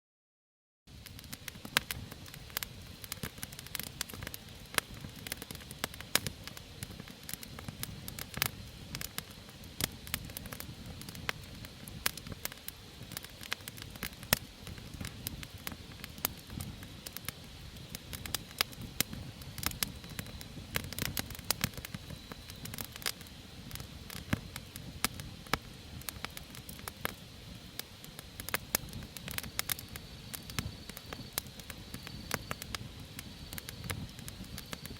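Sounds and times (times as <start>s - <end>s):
campfire crackling and popping: 0.9s - 34.9s
low rush of burning fire: 0.9s - 34.9s.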